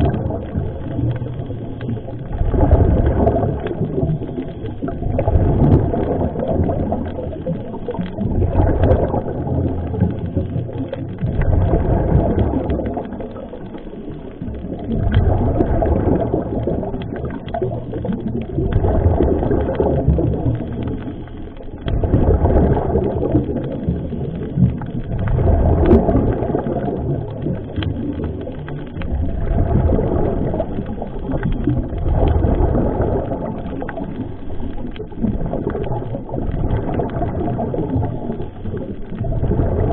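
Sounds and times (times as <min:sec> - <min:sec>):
underwater regulator breathing bubbles: 0:00.0 - 0:39.9.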